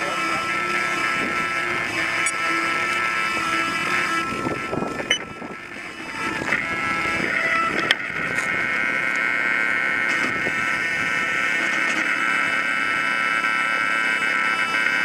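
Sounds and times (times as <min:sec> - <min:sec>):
rc helicopter whine: 0:00.0 - 0:15.0.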